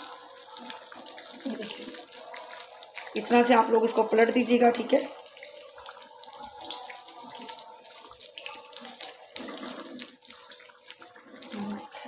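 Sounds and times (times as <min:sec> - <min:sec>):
frying in hot oil: 0:00.0 - 0:12.0.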